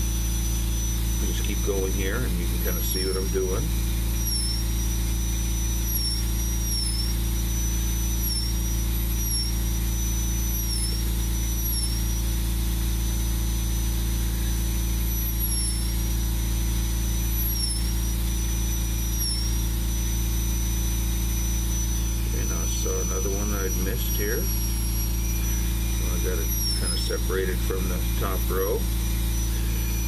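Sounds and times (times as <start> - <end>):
constant low hum: 0.0 - 30.0
rotary tool whining carving wood: 0.0 - 30.0.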